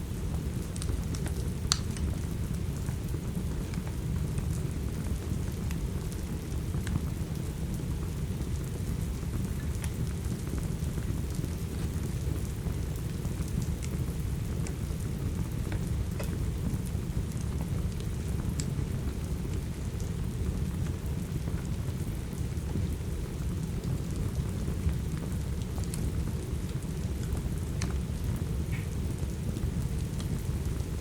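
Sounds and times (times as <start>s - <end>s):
steady rain rumble: 0.0s - 31.0s
wood fire crackling: 0.0s - 31.0s.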